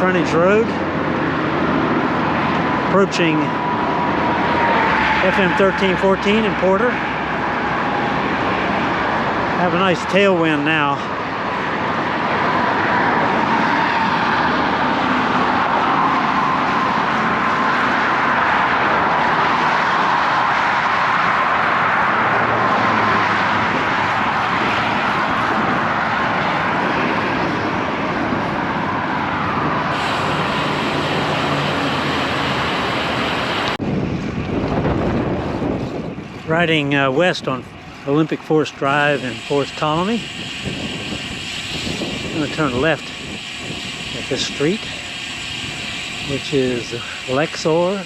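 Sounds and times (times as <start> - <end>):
traffic and road noise: 0.0 - 48.0.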